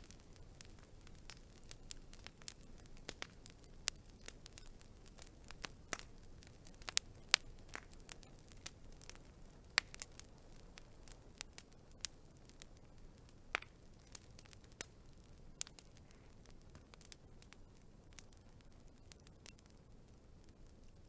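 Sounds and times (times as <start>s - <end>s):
faint steady hiss: 0.0s - 21.0s
wood fire crackling: 0.0s - 21.0s.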